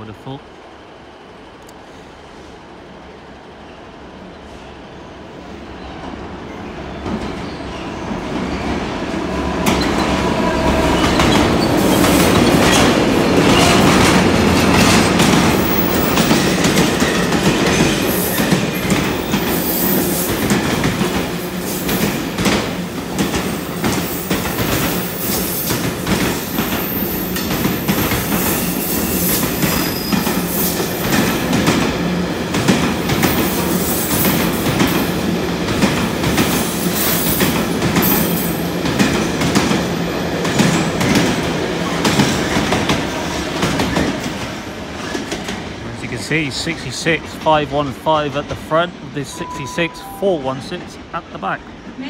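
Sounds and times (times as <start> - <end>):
diesel locomotive engine: 0.0 - 52.0.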